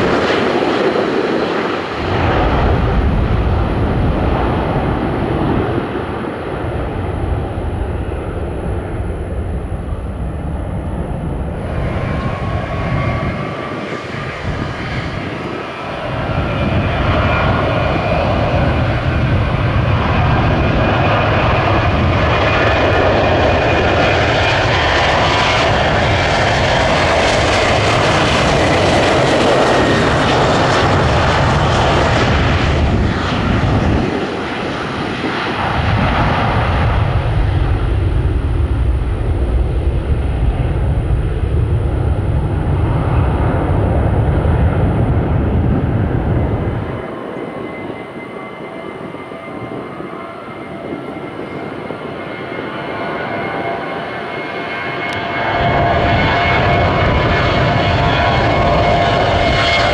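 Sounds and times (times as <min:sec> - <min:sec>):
jet engine low rumble: 0:00.0 - 0:59.9.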